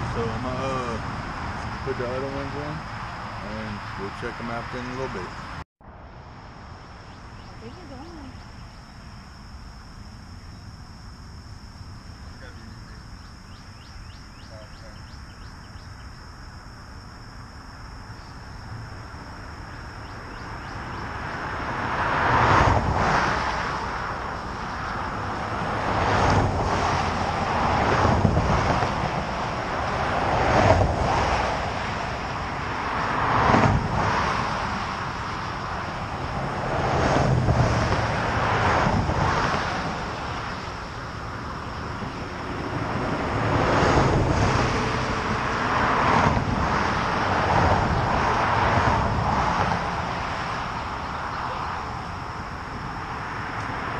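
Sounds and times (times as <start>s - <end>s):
highway traffic passing: 0.0s - 53.9s.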